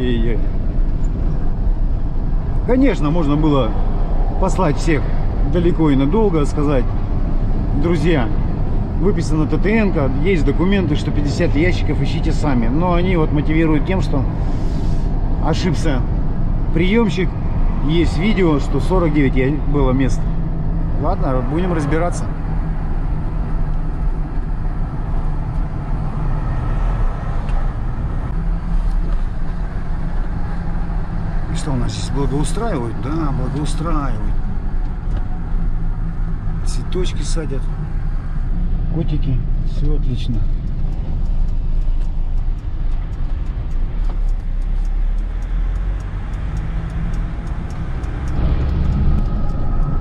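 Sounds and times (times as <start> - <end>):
truck engine and road rumble: 0.0 - 50.0.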